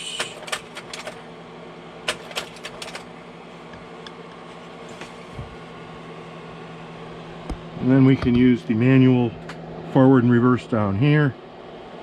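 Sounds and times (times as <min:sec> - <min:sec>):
projector cooling fan humming: 0:00.0 - 0:12.0.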